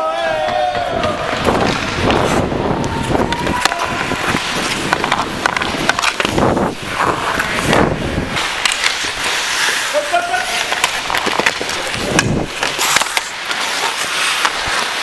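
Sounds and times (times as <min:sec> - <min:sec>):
hockey sticks and puck clicking: 0:00.4 - 0:15.0
skate blades scraping on ice: 0:00.4 - 0:15.0.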